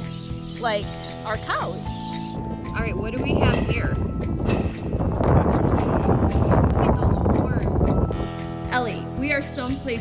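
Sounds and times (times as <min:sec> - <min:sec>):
wind buffeting microphone: 0:00.3 - 0:10.0.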